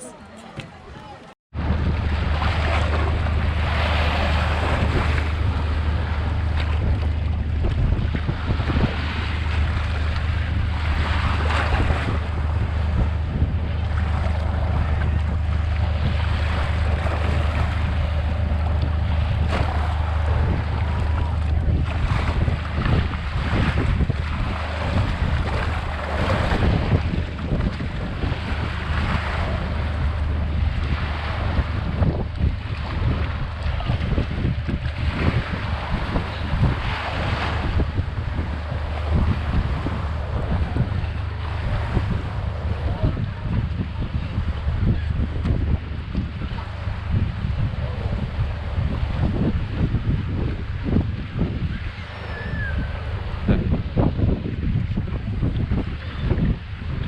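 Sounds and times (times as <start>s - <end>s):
surf breaking on beach: 0.0s - 57.0s
wind on microphone: 0.0s - 57.0s.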